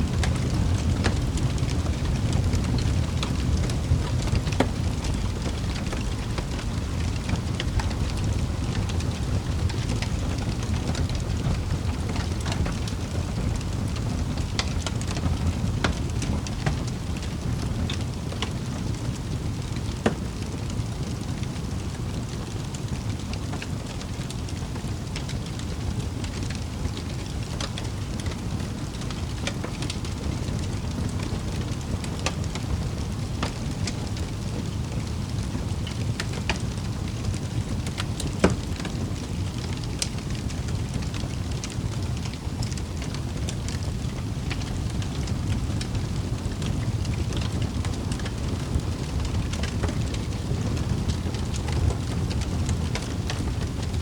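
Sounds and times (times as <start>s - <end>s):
low rumble of flames: 0.0s - 54.0s
wood fire pops and snaps: 0.0s - 54.0s.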